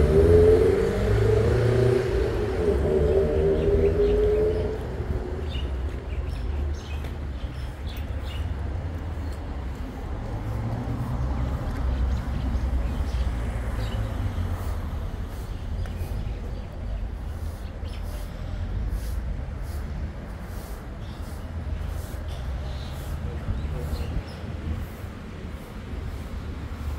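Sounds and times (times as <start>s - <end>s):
low street rumble: 0.0s - 26.9s.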